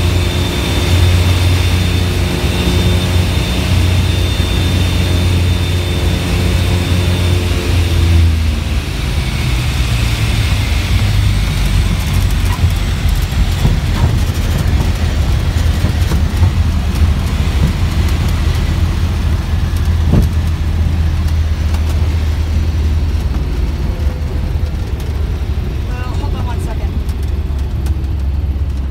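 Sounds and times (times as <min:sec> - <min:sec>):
airplane engines droning: 0:00.0 - 0:28.9.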